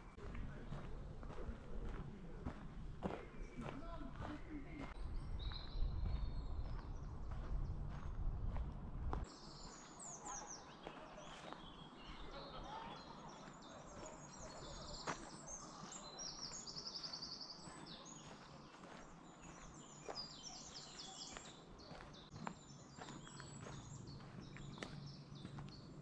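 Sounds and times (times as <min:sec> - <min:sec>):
birds singing: 0:00.0 - 0:08.6, 0:09.2 - 0:26.0.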